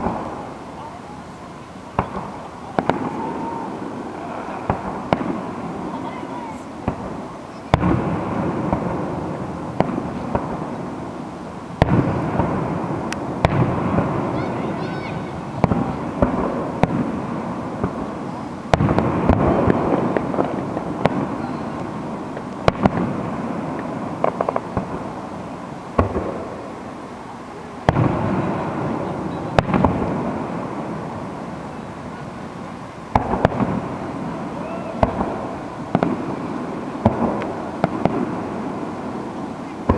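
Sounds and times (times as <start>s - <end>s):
fireworks booming: 0.0s - 39.9s
smaller firework bangs: 0.0s - 39.9s.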